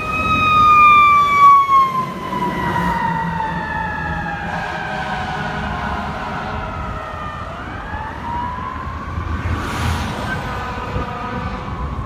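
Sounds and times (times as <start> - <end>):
fire truck siren wailing: 0.0 - 12.0
low city traffic rumble: 0.0 - 12.0.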